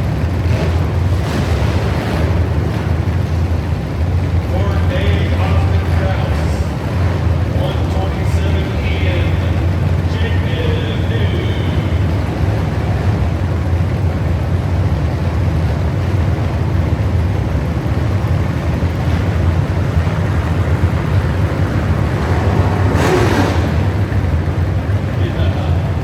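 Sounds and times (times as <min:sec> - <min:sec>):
truck engine rumbling: 0:00.0 - 0:26.0
rush of noise: 0:04.5 - 0:26.0.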